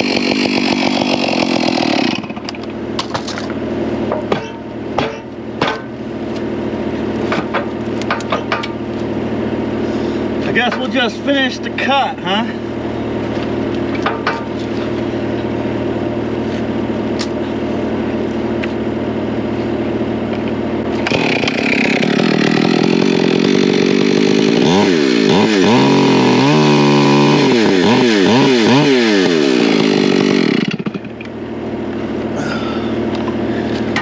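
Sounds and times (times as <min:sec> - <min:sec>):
engine idling: 0:00.0 - 0:27.9, 0:28.6 - 0:34.0
chainsaw cutting: 0:00.0 - 0:34.0.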